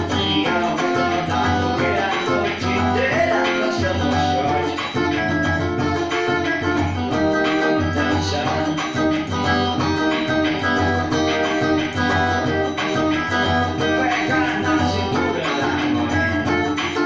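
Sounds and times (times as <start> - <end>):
guitar playing melody: 0.0 - 17.0
instrumental folk dance tune: 0.0 - 17.0.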